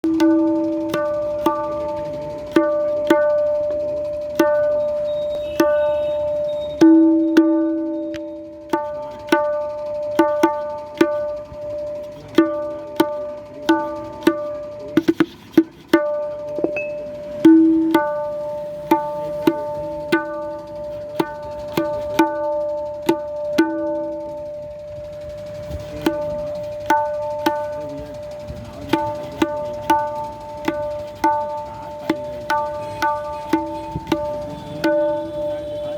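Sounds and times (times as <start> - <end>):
tabla strokes: 0.0 - 35.9.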